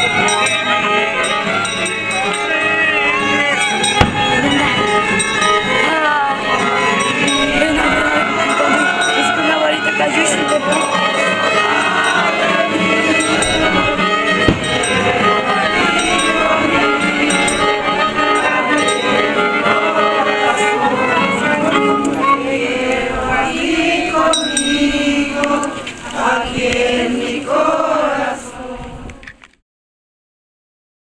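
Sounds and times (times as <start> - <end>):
instrumental accompaniment: 0.0 - 28.0
group singing: 0.0 - 29.2.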